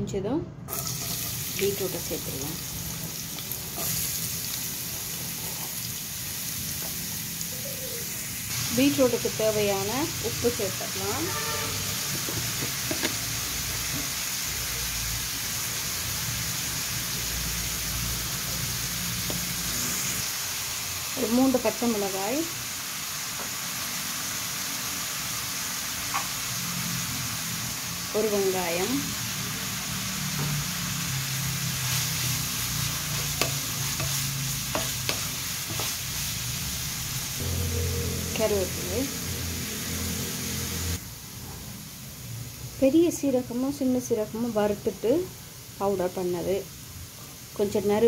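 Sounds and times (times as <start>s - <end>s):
beetroot sizzling in oil: 0.7s - 48.0s.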